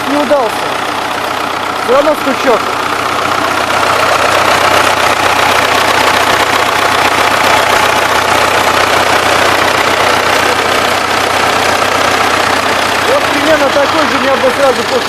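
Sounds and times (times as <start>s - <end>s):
diesel engine running with knock: 0.0s - 15.0s.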